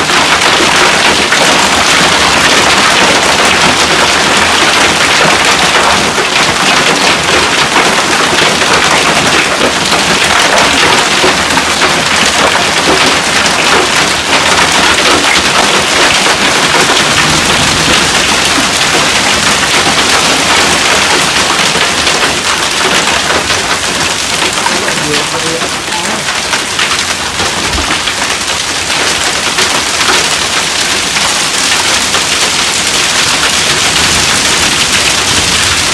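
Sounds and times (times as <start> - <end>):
hail and rain pelting down: 0.0 - 35.9.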